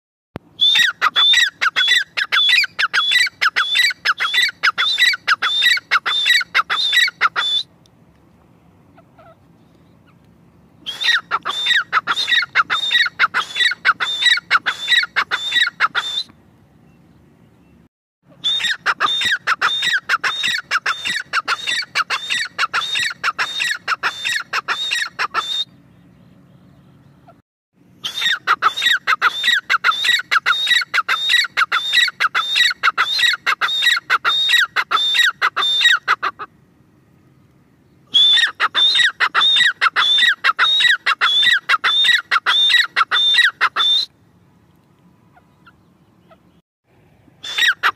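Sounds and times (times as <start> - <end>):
bird calling ringing notes: 0.5 - 7.8, 8.9 - 27.4, 28.0 - 36.5, 37.3 - 44.2, 47.4 - 47.9.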